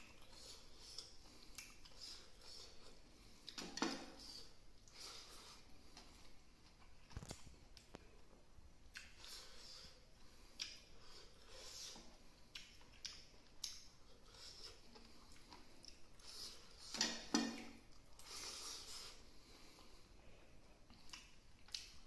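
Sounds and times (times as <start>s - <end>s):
person chewing food: 0.0s - 8.2s, 8.8s - 22.0s.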